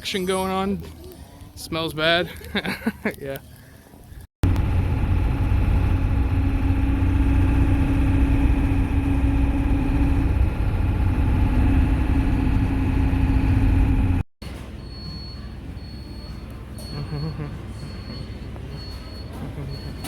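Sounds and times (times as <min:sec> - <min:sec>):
vehicle engine rumbling: 0:03.6 - 0:20.0.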